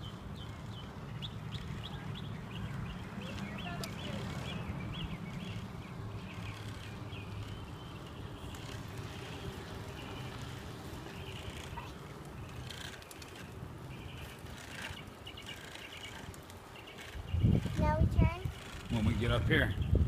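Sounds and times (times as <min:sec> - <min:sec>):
bicycle tyres rumbling: 0:00.0 - 0:20.0.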